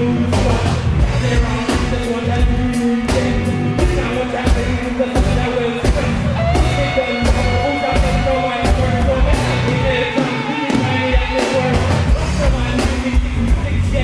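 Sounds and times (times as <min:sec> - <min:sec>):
live reggae band playing: 0:00.0 - 0:14.0
man singing into microphone: 0:00.0 - 0:14.0.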